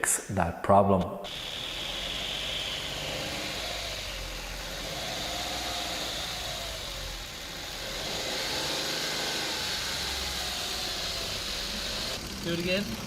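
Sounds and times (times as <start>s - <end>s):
car engine idling: 1.3s - 13.0s.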